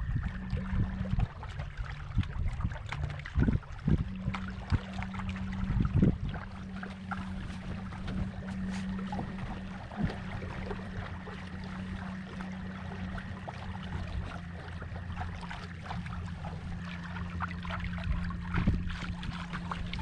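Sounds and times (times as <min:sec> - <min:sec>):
water splashing along hull: 0:00.0 - 0:20.0
small motor humming: 0:03.0 - 0:20.0.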